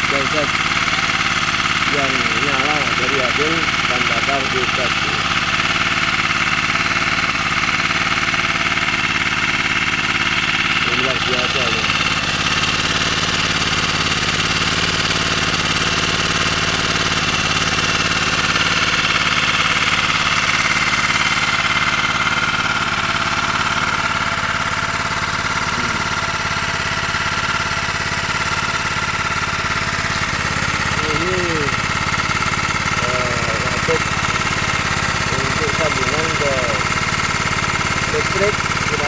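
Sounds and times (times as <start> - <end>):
generator engine running: 0.0 - 39.0.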